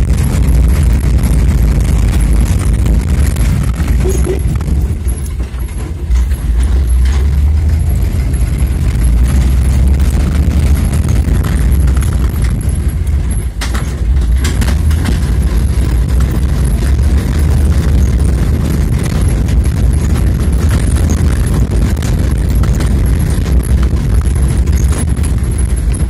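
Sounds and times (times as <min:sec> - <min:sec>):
knocks and rattles: 0:00.0 - 0:26.0
vehicle ride rumble: 0:00.0 - 0:26.0
wind buffeting microphone: 0:00.0 - 0:26.0.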